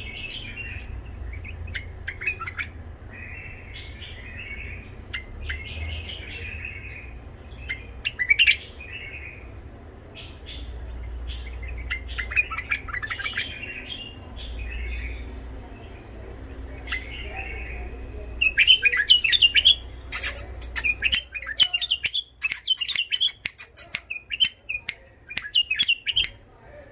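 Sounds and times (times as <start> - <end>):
bird chirping in rough phrases: 0.0 - 26.5.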